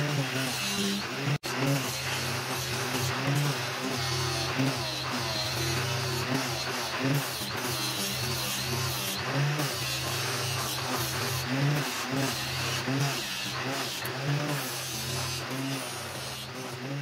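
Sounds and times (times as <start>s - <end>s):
angle grinder running: 0.0s - 17.0s
wood scraping on abrasive disc: 0.0s - 17.0s.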